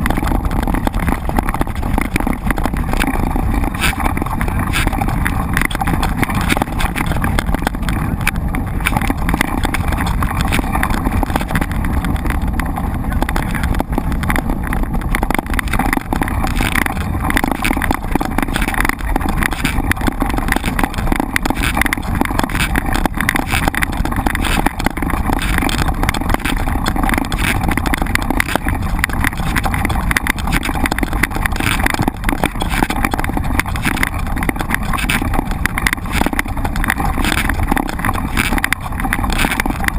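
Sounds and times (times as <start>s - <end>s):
tyres rumbling on trail: 0.0s - 39.9s
wind on microphone: 0.0s - 39.9s.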